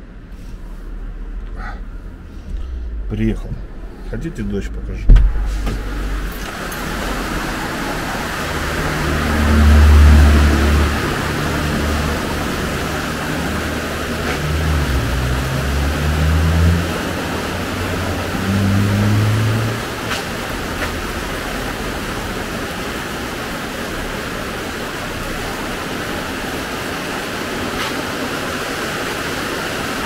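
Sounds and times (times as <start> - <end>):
cars passing on wet road: 0.0 - 30.0
rain hissing: 0.0 - 30.0.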